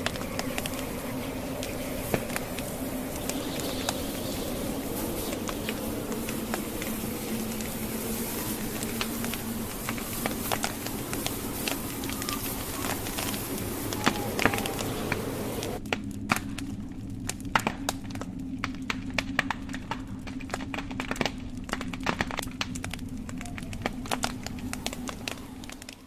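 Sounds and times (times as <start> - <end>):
blizzard wind hissing: 0.0 - 26.0
wood fire crackling: 0.0 - 26.0.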